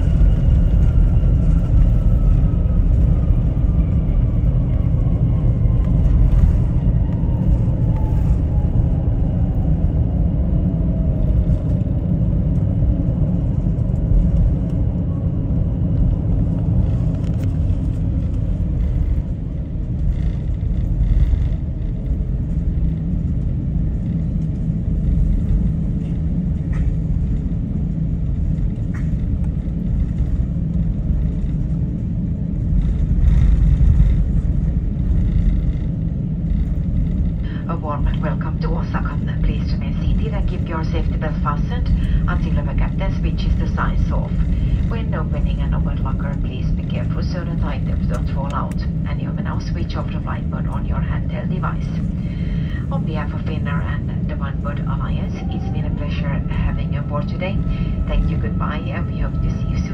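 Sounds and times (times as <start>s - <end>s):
aircraft rolling rumble: 0.0s - 59.9s
jet engine whine falling: 0.0s - 59.9s.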